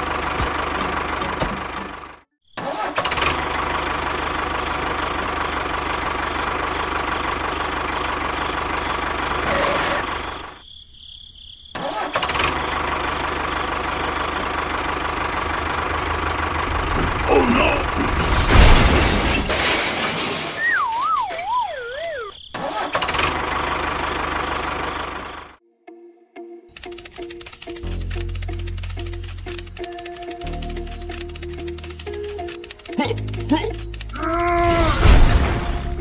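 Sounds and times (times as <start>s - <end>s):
engine humming: 0.0s - 2.3s, 3.1s - 10.6s, 12.1s - 25.6s, 26.8s - 35.2s.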